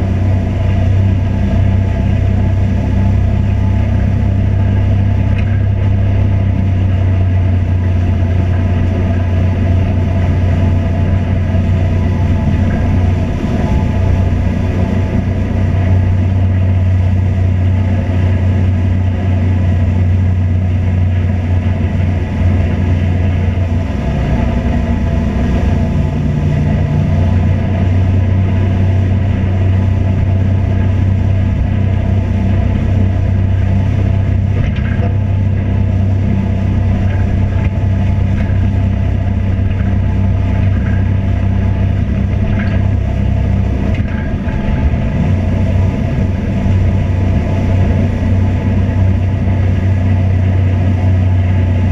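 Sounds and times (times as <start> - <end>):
vehicle engine droning: 0.0 - 51.9.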